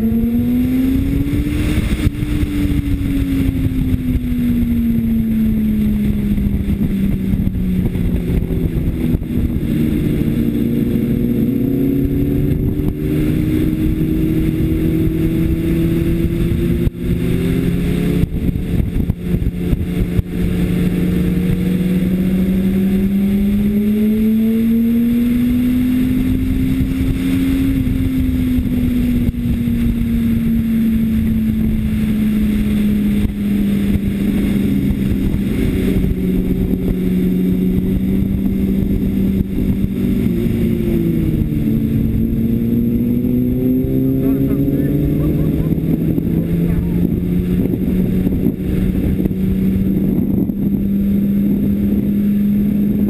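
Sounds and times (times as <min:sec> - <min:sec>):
motorcycle engine running hard: 0:00.0 - 0:53.0
wind rushing past: 0:00.0 - 0:53.0.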